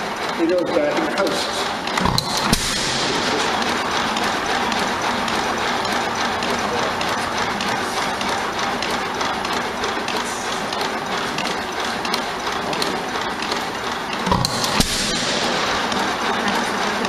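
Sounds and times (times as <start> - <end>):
engine firing: 0.0 - 17.0
engine mechanical clatter and clicking: 0.0 - 17.0.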